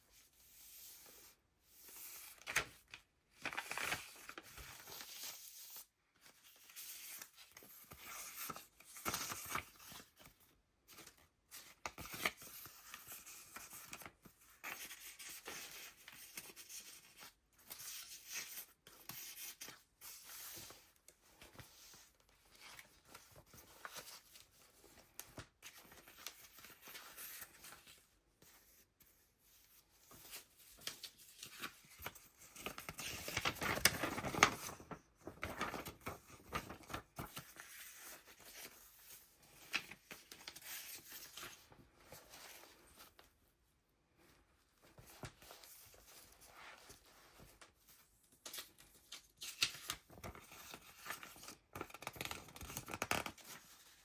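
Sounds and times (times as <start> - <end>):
paper pages rustling: 1.0 - 28.8, 30.0 - 43.3, 44.2 - 54.0.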